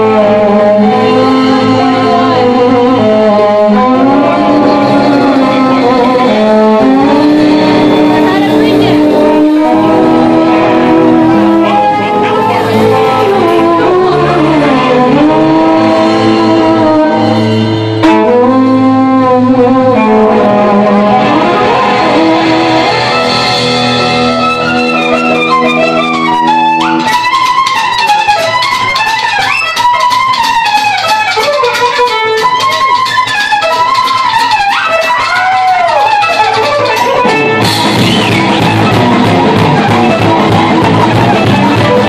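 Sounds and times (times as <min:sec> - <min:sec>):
fiddle playing: 0:00.0 - 0:42.0
strummed guitar rhythm: 0:00.0 - 0:42.0.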